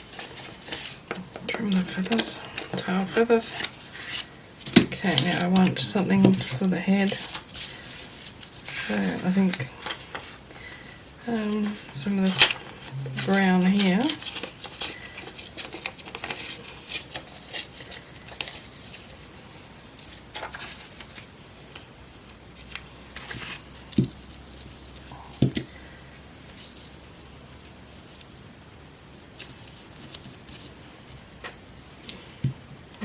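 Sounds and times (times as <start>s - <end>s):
paper rustling: 0.0s - 25.7s, 29.3s - 33.0s.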